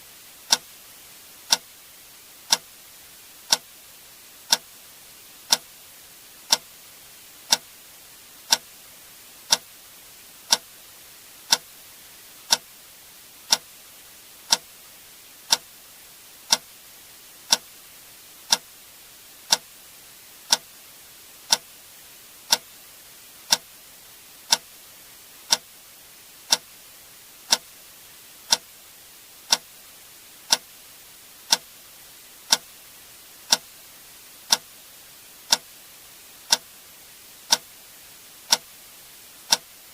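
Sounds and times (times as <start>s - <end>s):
faint hiss: 0.0s - 39.9s.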